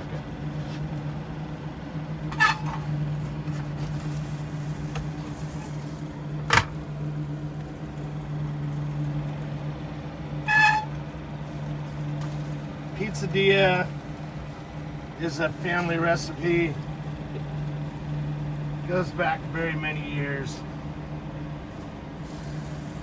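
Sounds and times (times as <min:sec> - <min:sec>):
fan humming: 0:00.0 - 0:23.0.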